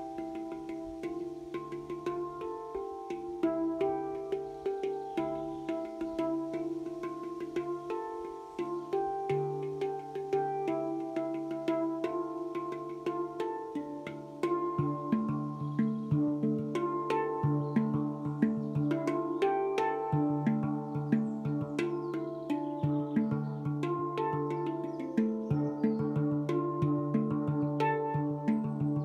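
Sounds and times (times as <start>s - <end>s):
handpan notes ringing: 0.0s - 29.0s.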